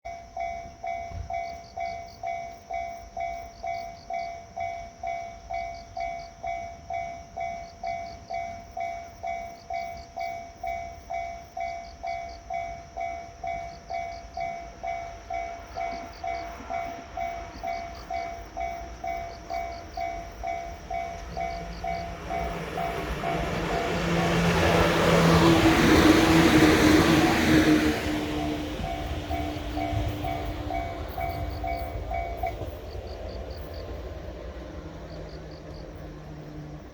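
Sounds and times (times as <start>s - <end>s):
level-crossing bell dinging: 0.1s - 32.9s
electric train rumble: 0.1s - 36.9s.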